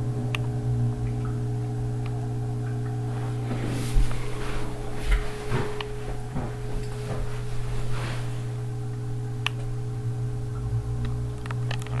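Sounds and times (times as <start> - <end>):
aquarium pump humming: 0.0 - 12.0.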